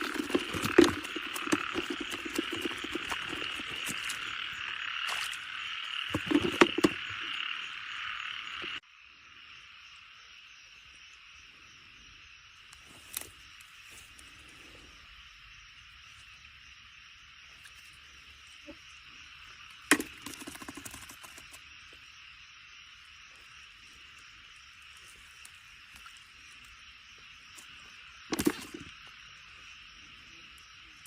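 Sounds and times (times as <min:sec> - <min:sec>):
frogs calling: 0:00.0 - 0:31.0.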